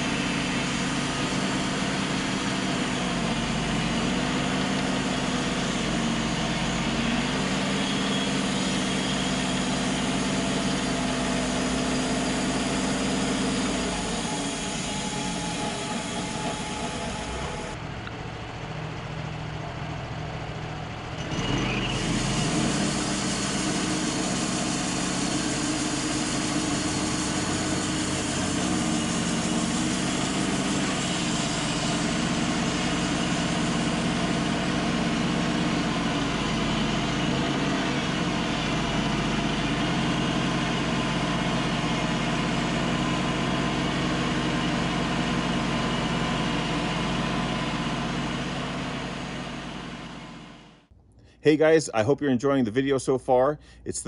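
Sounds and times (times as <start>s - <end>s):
sawmill engine droning: 0.0s - 50.9s.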